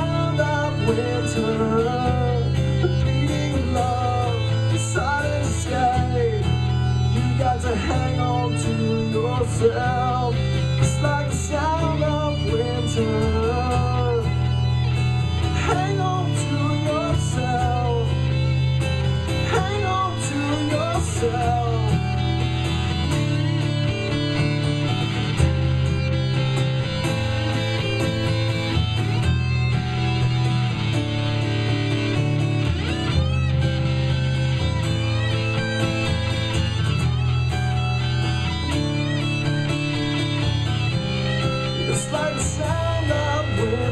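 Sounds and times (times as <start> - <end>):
rock band playing: 0.0 - 43.9
wavering lead guitar melody: 0.0 - 43.9.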